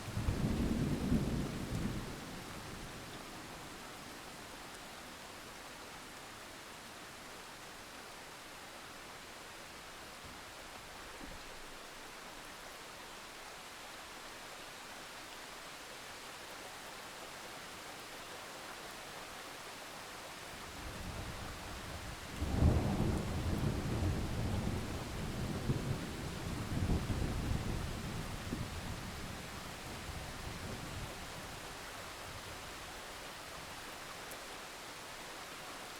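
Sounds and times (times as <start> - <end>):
rain hiss: 0.0 - 35.9.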